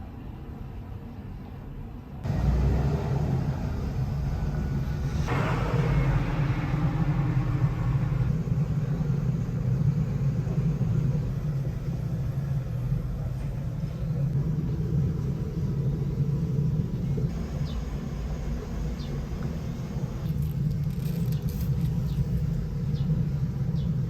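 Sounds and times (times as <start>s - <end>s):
car engine rumbling: 2.2s - 24.0s
rushing noise: 2.2s - 24.0s.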